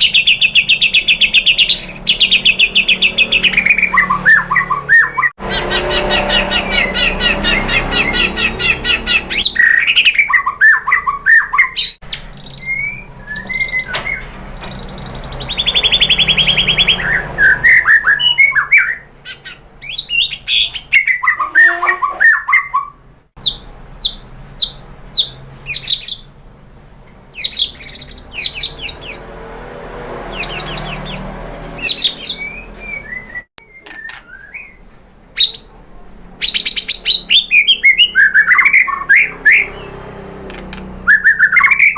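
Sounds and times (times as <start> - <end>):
bird singing whistles and trills: 0.0 - 26.3, 27.4 - 29.3, 30.3 - 34.8, 35.4 - 40.0, 41.0 - 41.9.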